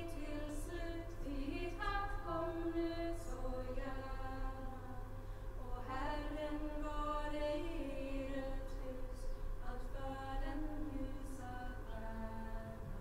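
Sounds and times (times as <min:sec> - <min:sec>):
women singing without instruments: 0:00.0 - 0:13.0.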